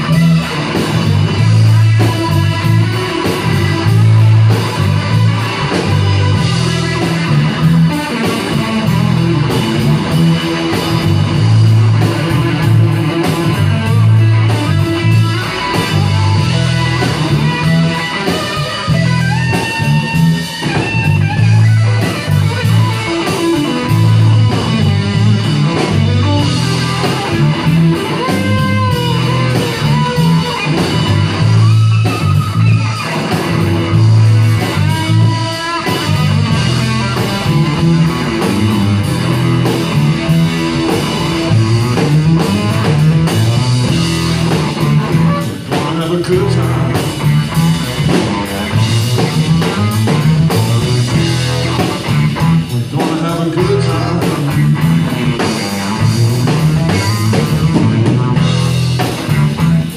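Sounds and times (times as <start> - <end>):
blues-rock band playing: 0.0 - 59.9
electric guitar bent notes: 0.0 - 59.9.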